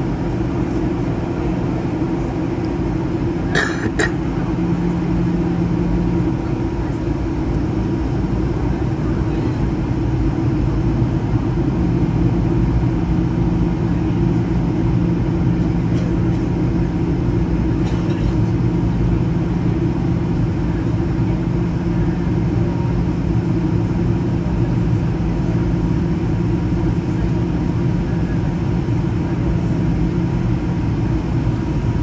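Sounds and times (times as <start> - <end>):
airliner cabin drone: 0.0 - 32.0
constant low hum: 0.0 - 32.0.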